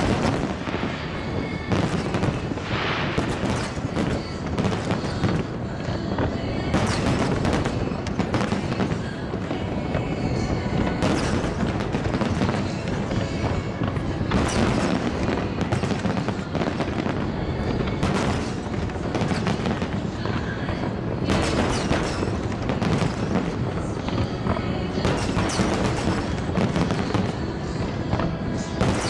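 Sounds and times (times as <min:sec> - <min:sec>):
fireworks bursts and booms: 0:00.0 - 0:29.0.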